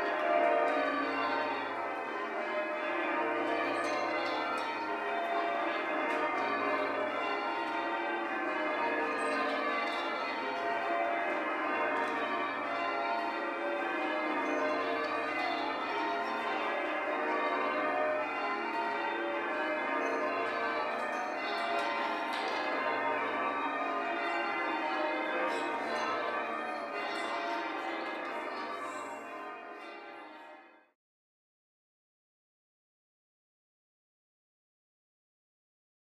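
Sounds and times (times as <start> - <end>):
church bells change ringing: 0.0 - 30.9.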